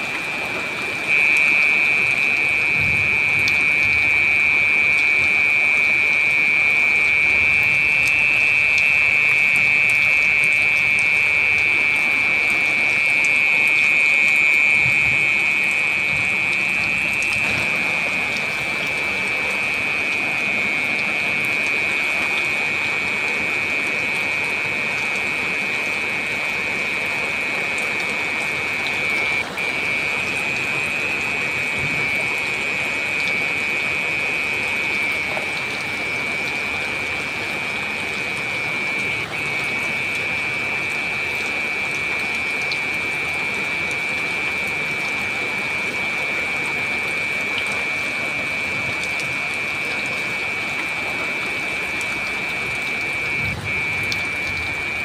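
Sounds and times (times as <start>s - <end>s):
heavy rain falling: 0.0s - 55.0s
high-pitched whine: 0.0s - 55.0s.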